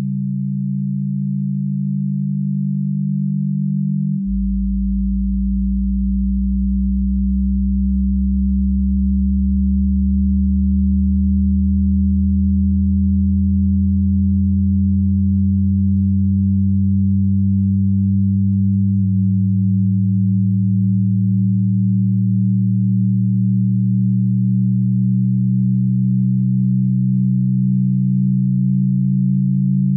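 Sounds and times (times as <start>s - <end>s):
low electronic drone of pure tones: 0.0s - 29.9s.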